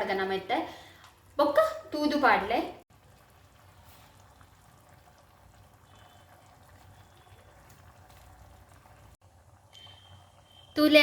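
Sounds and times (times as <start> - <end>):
gravy bubbling in a pan: 0.0 - 11.0.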